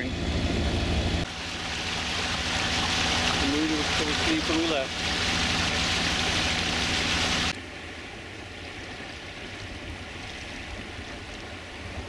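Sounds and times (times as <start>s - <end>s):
boat engine hum: 0.0s - 12.0s
wind: 0.0s - 12.0s
water rushing from wake: 1.2s - 12.0s
water washing: 1.2s - 12.0s.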